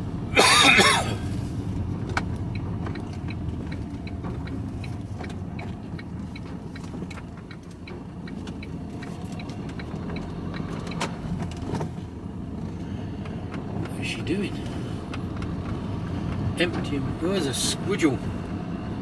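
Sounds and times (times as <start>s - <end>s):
turn signal ticking: 0.0s - 19.0s
vehicle engine rumbling: 0.0s - 19.0s.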